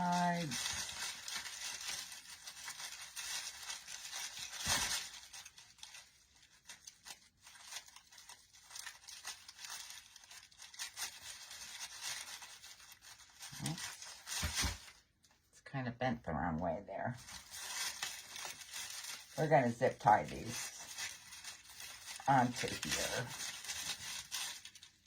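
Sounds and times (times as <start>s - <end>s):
artificial foliage rustling: 0.0s - 15.5s, 17.0s - 25.0s.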